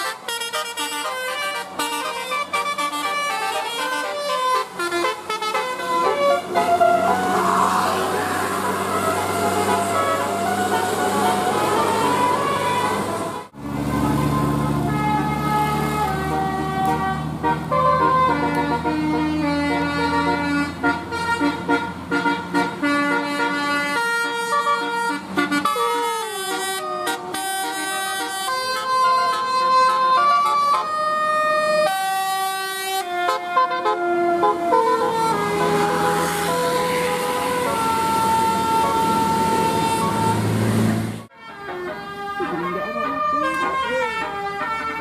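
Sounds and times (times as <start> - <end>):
multi-tone air horn melody: 0.0 - 45.0.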